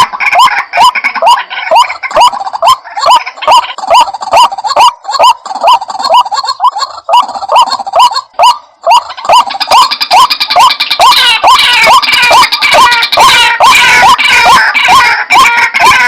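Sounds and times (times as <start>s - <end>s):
waterhen croaking calls: 0.0s - 16.0s.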